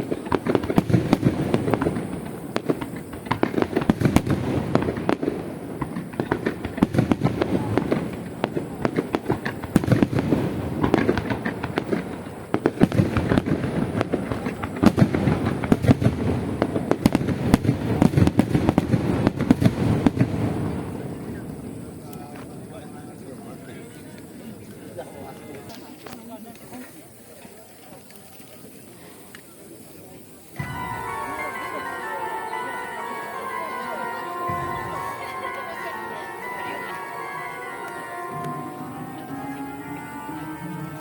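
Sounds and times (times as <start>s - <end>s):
fireworks bursting and crackling: 0.0s - 24.9s, 29.2s - 41.0s.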